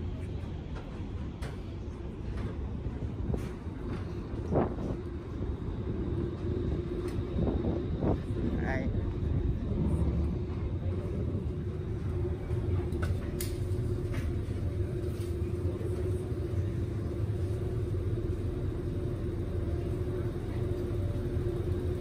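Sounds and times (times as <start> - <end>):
constant hum: 0.0 - 22.0
ferry engines rumbling: 0.0 - 22.0.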